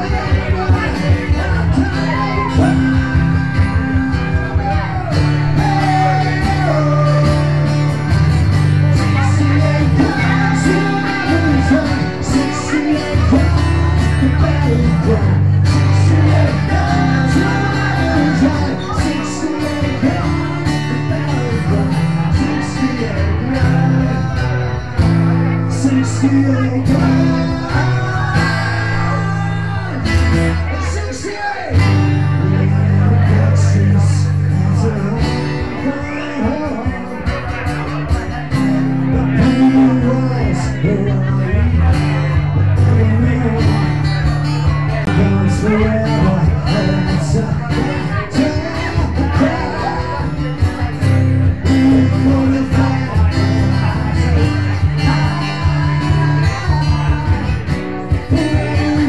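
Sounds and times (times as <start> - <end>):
person singing: 0.0 - 59.0
strummed acoustic guitar: 0.0 - 59.0.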